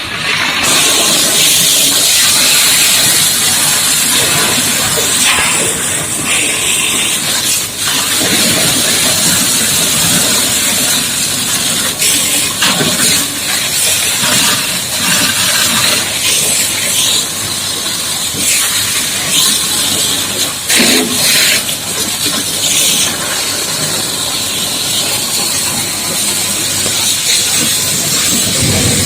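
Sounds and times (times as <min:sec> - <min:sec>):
high-pressure water jet hissing: 0:00.0 - 0:29.0.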